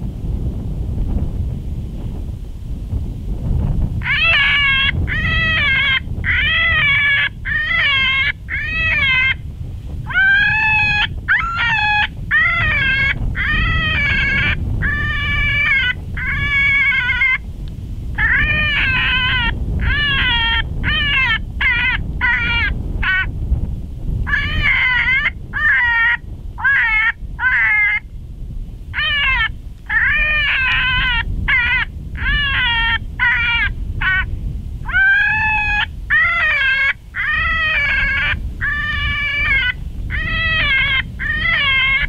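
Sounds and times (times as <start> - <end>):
predator call distress cries: 4.0 - 9.4, 10.1 - 17.4, 18.1 - 23.3, 24.3 - 28.1, 28.9 - 42.0.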